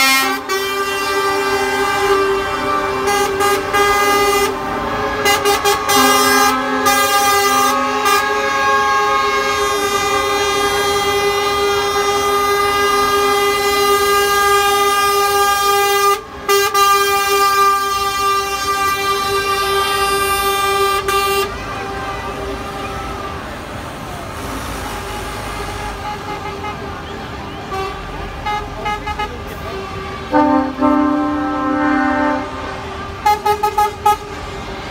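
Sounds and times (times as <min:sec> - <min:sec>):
lorry air horns blasting: 0:00.0 - 0:27.0, 0:27.6 - 0:34.6.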